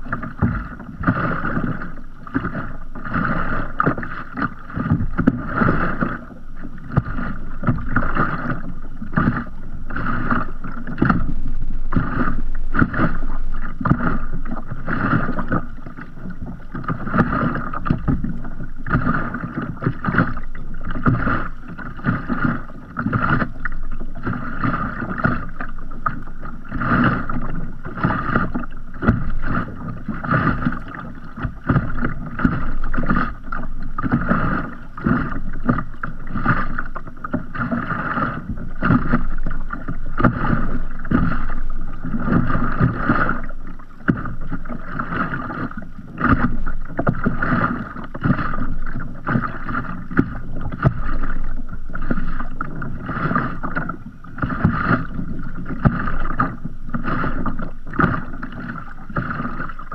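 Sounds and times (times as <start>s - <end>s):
water lapping against kayak hull: 0.0s - 59.9s.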